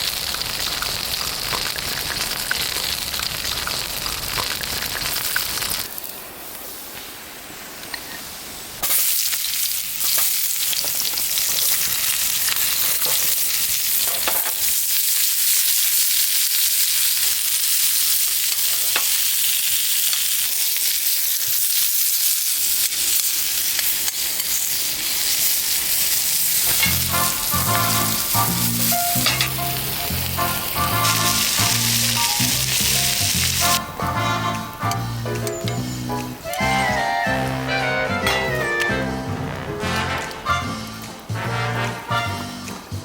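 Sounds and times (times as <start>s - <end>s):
food sizzling in a pan: 0.0s - 43.0s.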